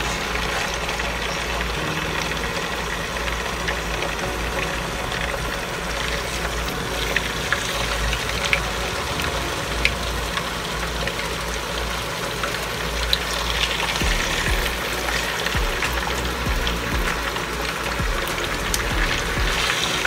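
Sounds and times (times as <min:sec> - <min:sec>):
oil sizzling in a wok: 0:00.0 - 0:20.0.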